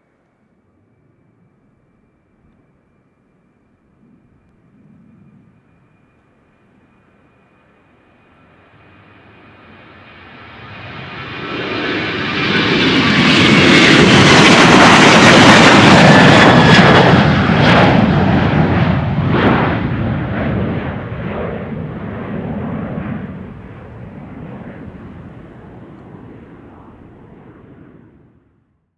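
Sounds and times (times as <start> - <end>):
high engine whine: 0.0 - 28.2
jet engines roaring at takeoff: 0.5 - 28.6.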